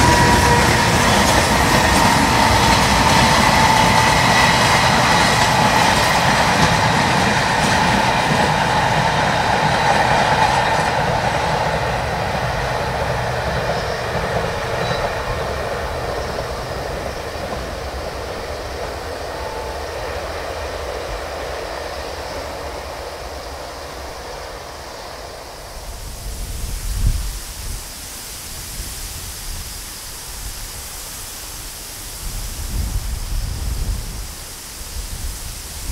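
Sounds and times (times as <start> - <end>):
train wheels on rails: 0.0 - 35.9.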